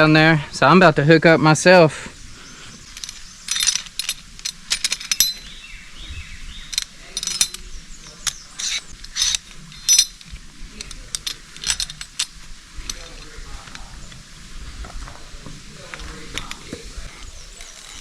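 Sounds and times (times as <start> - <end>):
carabiners clinking: 2.3 - 14.6, 15.2 - 18.0.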